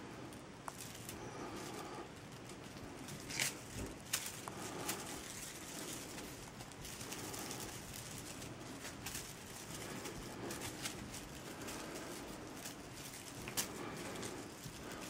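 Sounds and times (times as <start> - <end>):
kittens pawing at feather toy: 0.0 - 15.0.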